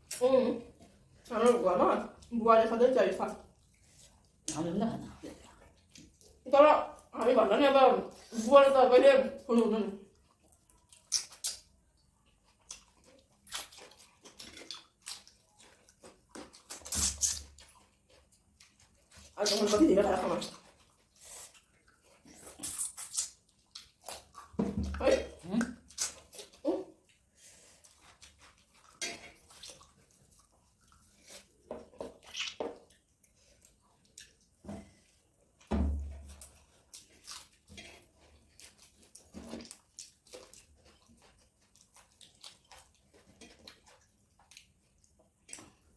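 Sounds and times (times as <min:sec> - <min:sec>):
wet eating smacks and chews: 0:03.2 - 0:07.2, 0:09.4 - 0:45.9.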